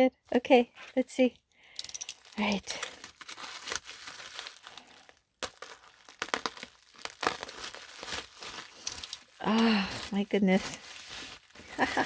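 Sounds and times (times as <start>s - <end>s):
wrapping crinkling and tearing: 2.0s - 12.0s.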